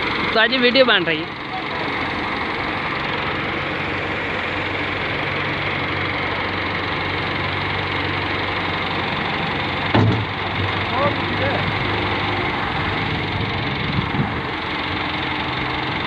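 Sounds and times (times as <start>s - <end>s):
diesel engines droning: 0.0s - 16.0s.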